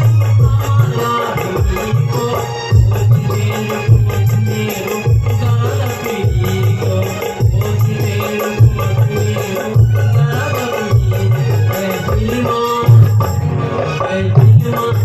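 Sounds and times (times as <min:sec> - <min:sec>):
heavy low drumbeat: 0:00.0 - 0:13.5, 0:14.1 - 0:15.0
hand percussion: 0:00.0 - 0:15.0.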